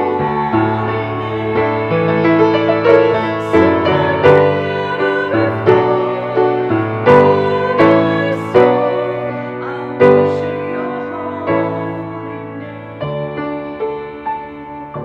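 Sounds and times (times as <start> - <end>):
piano chords: 0.0 - 15.0
women singing a hymn: 0.0 - 15.0.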